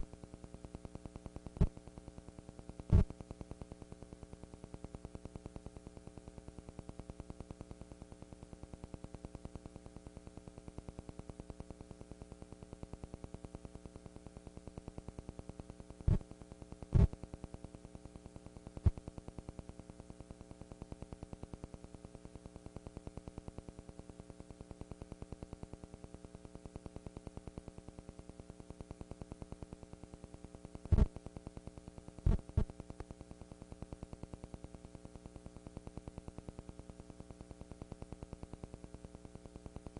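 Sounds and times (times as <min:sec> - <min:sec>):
mains hum: 0:00.0 - 0:39.9.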